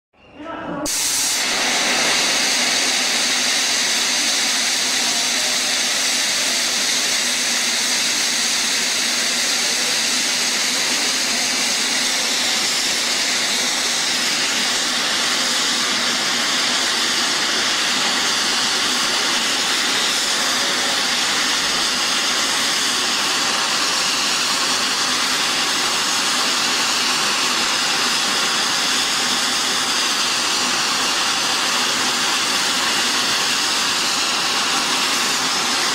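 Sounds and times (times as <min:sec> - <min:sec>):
vapour jets hissing: 0:00.9 - 0:35.9.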